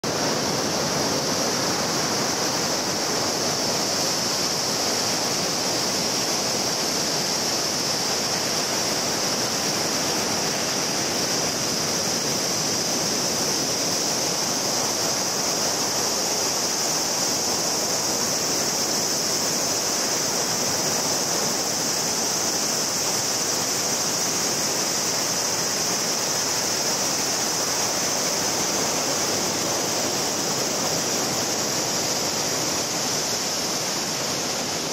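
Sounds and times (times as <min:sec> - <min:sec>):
ocean surf washing on beach: 0:00.0 - 0:34.9.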